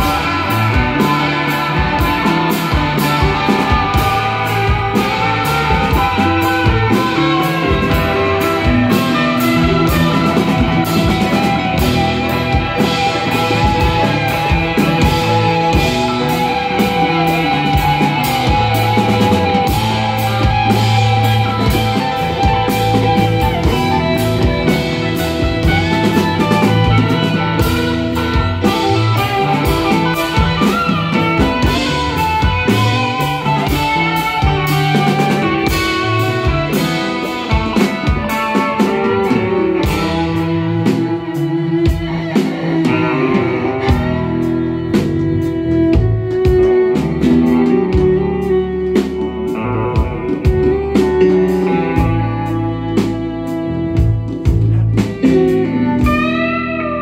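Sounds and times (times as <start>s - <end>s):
bass guitar: 0.0s - 57.0s
drum kit steady beat: 0.0s - 57.0s
electric guitar: 0.0s - 57.0s.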